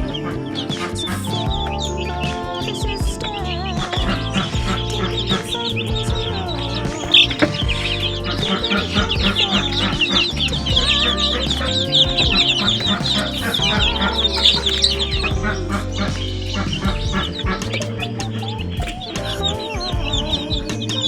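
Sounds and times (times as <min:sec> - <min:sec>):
background music: 0:00.0 - 0:21.0
chickens clucking: 0:00.0 - 0:21.0
chicks peeping: 0:00.0 - 0:21.0.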